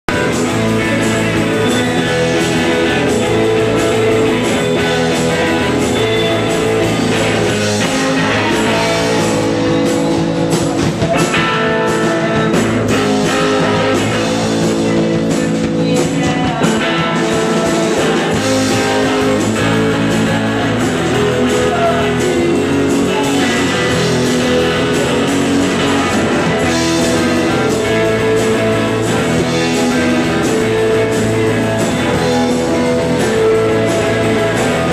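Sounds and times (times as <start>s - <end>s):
lead vocal singing: 0.1s - 34.9s
live rock band playing: 0.1s - 34.9s.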